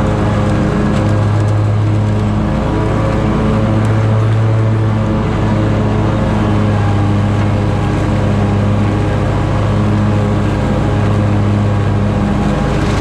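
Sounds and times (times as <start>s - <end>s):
lawn mower cutting grass: 0.0s - 13.0s.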